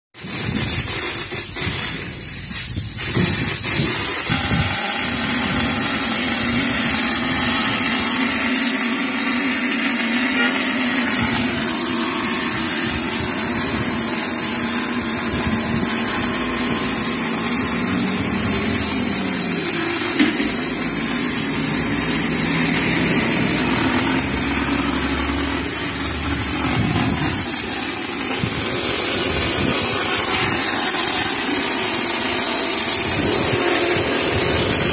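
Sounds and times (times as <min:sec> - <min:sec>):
motor running: 0:00.2 - 0:34.9
spray gun air hissing: 0:00.2 - 0:34.9.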